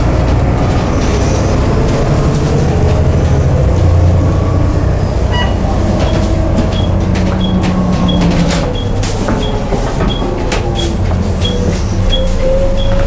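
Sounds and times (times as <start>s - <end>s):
body rattles and knocks: 0.0s - 13.0s
bus diesel engine droning: 0.0s - 13.0s.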